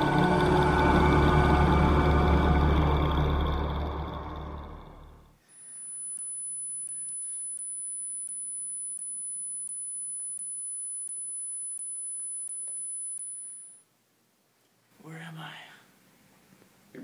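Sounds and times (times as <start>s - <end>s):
high-pitched electronic tone: 0.0s - 13.8s.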